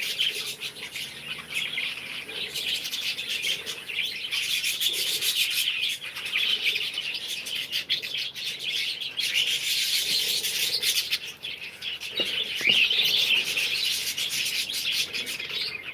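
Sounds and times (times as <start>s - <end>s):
flock of small birds chirping: 0.0s - 15.9s.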